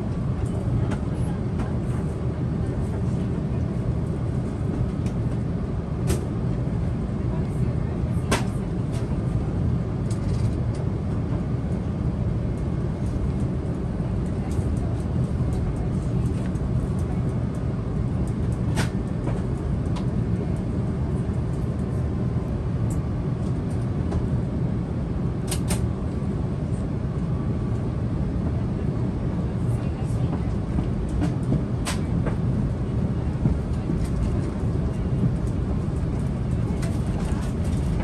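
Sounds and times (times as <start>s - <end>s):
airliner cabin rumble: 0.0s - 38.0s.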